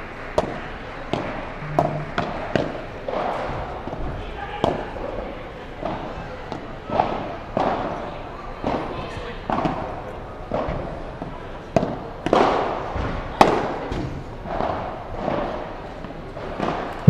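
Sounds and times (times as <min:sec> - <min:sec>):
background murmur: 0:00.0 - 0:17.0.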